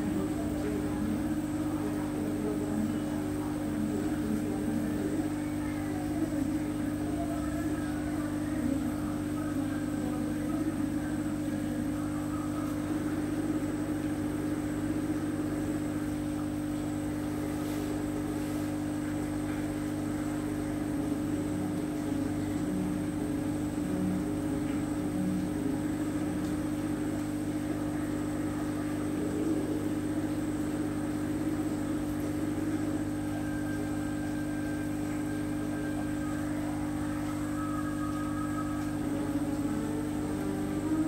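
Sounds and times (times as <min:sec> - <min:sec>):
aquarium pump humming: 0:00.0 - 0:41.0.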